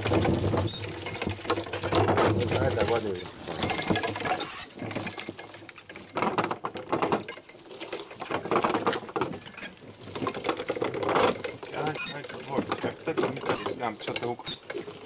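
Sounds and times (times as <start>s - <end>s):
grape crusher clicking and crackling: 0.0s - 15.0s.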